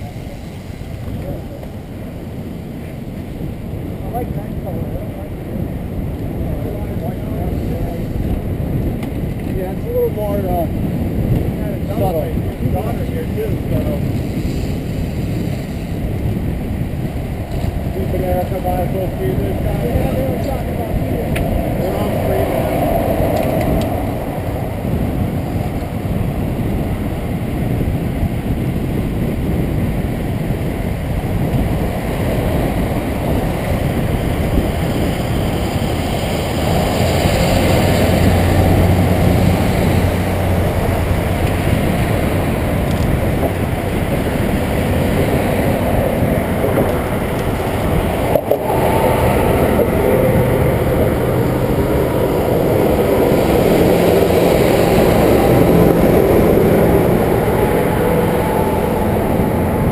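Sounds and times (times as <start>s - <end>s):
low vehicle hum: 0.0s - 59.9s
motor traffic passing: 0.0s - 59.9s
wind rushing over microphone: 0.0s - 59.9s.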